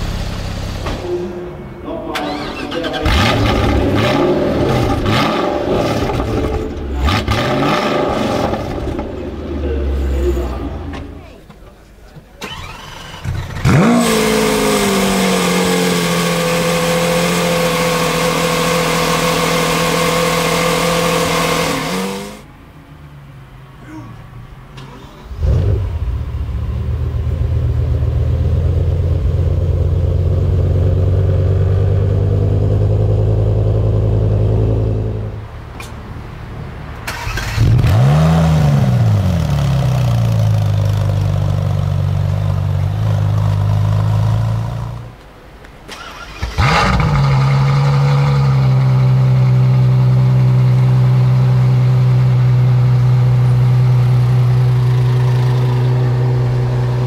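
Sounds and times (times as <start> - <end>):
car engine starting and revving: 0.0 - 1.4, 2.1 - 11.4, 12.4 - 23.6, 24.6 - 45.2, 45.8 - 57.0
engine firing up: 0.0 - 11.4, 12.4 - 22.5, 24.8 - 36.0, 37.0 - 41.5, 45.8 - 57.0
car engine idling: 0.0 - 57.0.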